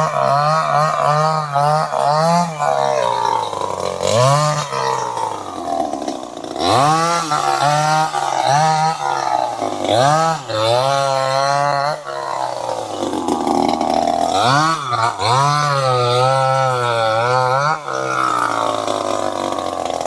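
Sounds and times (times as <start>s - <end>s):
chainsaw engine revving: 0.0s - 20.0s.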